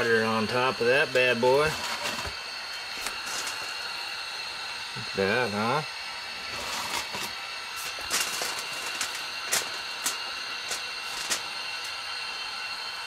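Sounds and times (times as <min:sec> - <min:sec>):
meat sizzling on a stove top: 0:00.0 - 0:13.0.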